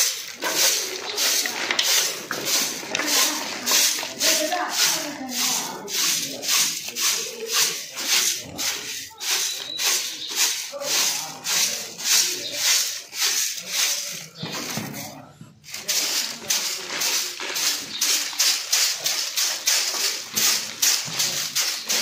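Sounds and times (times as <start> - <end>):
broom sweeping powder on floor: 0.0 - 22.0.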